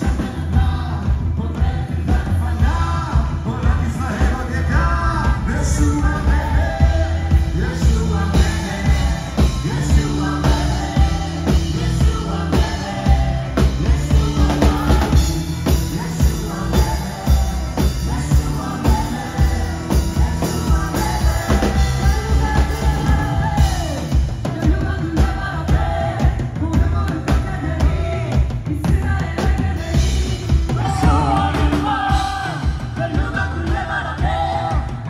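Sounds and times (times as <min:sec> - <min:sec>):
heavy bass line: 0:00.0 - 0:35.0
live band playing worship music: 0:00.0 - 0:35.0
person singing: 0:00.0 - 0:35.0.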